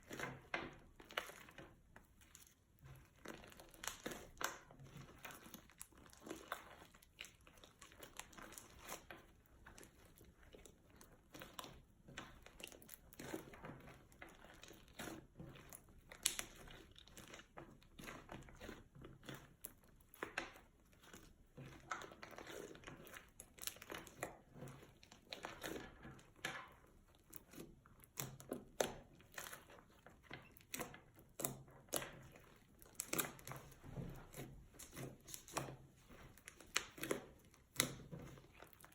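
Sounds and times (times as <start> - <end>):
slime squished crackling and popping: 3.2 - 38.9.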